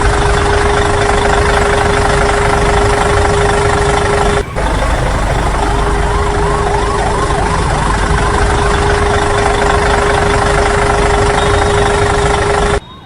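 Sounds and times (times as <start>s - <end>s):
heavy vehicle engine humming: 0.0s - 13.0s
siren yelping: 0.0s - 13.0s.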